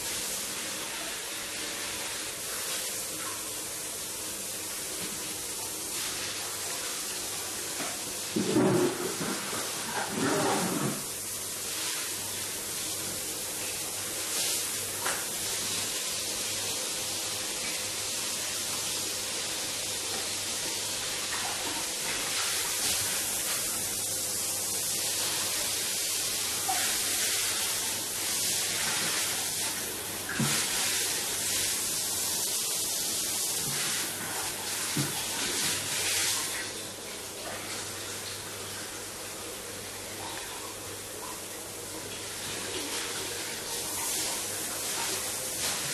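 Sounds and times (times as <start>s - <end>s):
water running: 0.0s - 45.9s.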